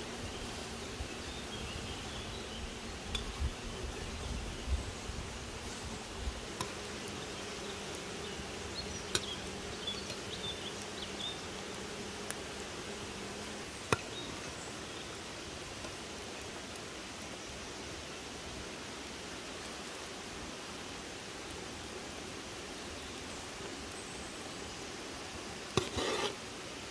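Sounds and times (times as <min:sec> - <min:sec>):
insect buzzing: 0:00.0 - 0:26.9.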